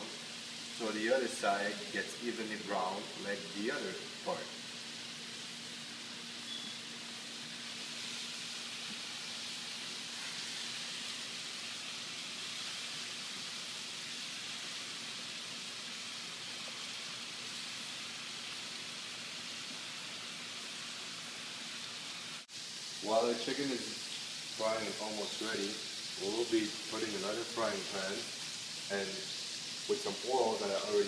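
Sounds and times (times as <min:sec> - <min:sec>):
chicken sizzling in a frying pan: 0:00.0 - 0:31.0.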